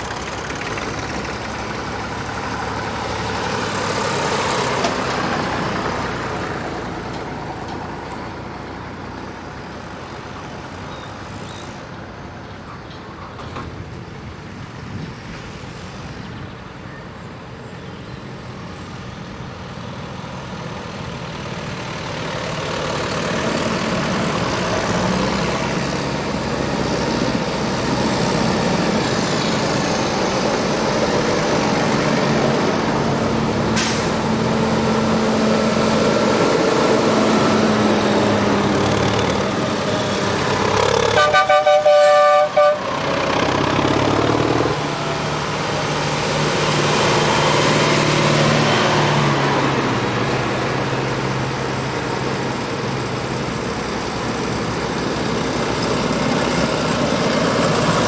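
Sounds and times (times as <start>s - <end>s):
tractor engine: 0.0s - 58.0s.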